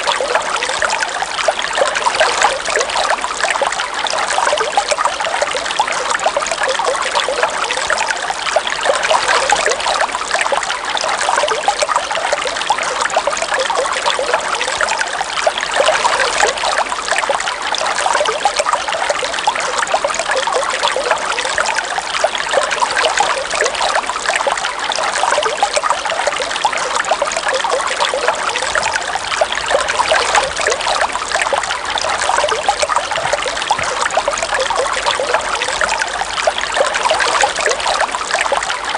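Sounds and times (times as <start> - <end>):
river water trickling and gurgling: 0.0 - 38.9.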